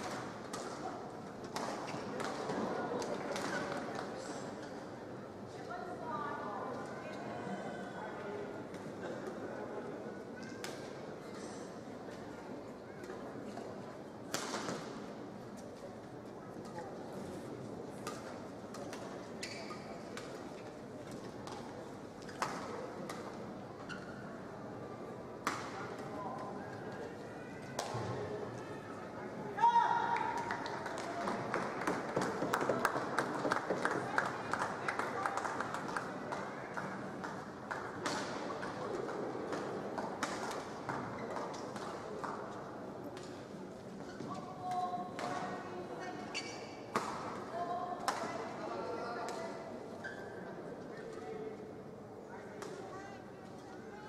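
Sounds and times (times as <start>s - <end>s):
indoor hall noise: 0.0s - 54.0s.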